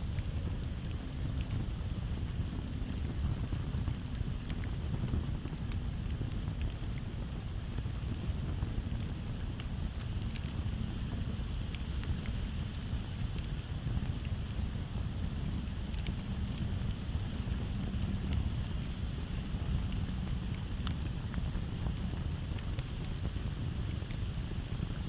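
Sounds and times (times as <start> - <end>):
campfire crackling and popping: 0.1 - 25.0
crickets chirping: 0.2 - 25.0.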